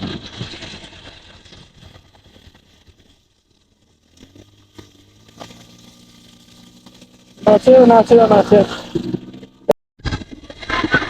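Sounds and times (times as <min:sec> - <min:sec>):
faint motorcycle engine idling: 0:00.0 - 0:09.7.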